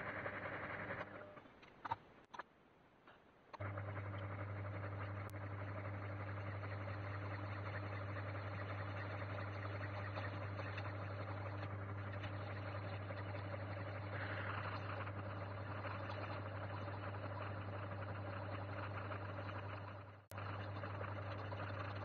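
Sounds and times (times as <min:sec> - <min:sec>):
benchtop lathe humming: 0:00.0 - 0:01.3, 0:03.6 - 0:22.0.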